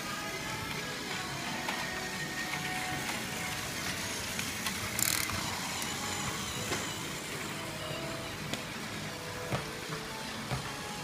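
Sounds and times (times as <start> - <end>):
toy train motors whirring: 0.0 - 9.3.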